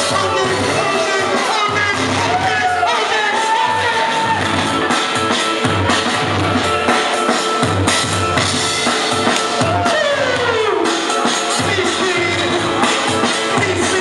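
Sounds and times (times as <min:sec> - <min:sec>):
dj music over loudspeaker: 0:00.0 - 0:14.0
drum-kit beat: 0:00.0 - 0:14.0.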